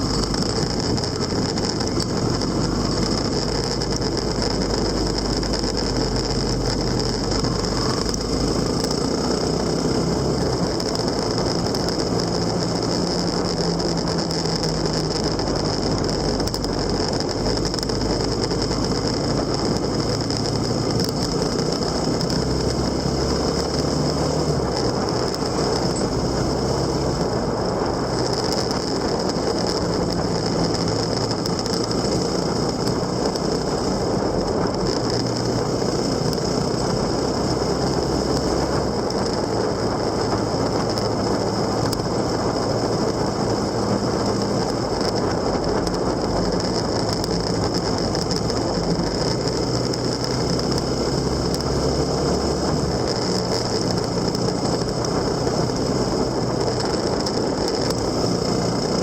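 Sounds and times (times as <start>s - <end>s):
high whine: 0.0s - 59.0s
vehicle engine running: 0.0s - 59.0s.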